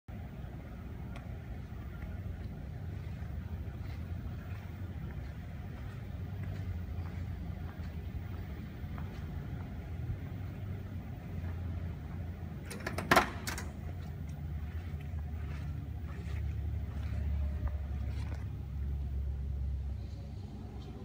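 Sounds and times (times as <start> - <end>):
steady low hum: 0.1 - 21.0.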